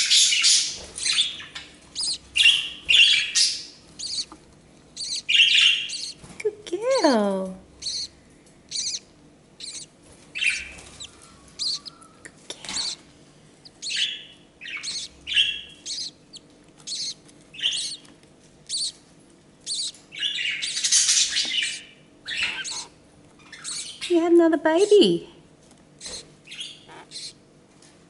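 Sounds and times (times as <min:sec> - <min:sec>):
budgerigars chirping: 0:00.0 - 0:06.2, 0:07.7 - 0:13.0, 0:13.6 - 0:19.0, 0:19.6 - 0:24.2, 0:26.0 - 0:27.4.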